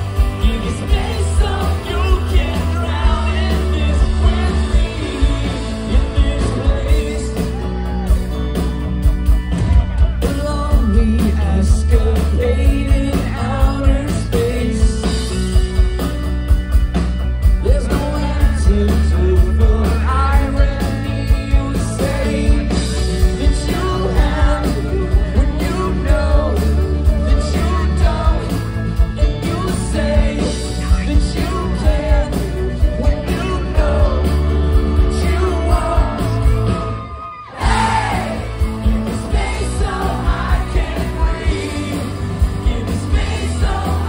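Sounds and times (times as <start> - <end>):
person singing: 0.0 - 8.5, 9.7 - 15.4, 17.6 - 36.8, 37.6 - 44.0
rock band playing live: 0.0 - 44.0.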